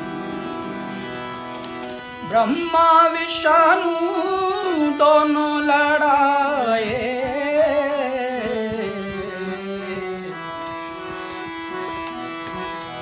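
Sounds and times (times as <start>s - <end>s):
person singing devotional song: 2.1s - 13.0s.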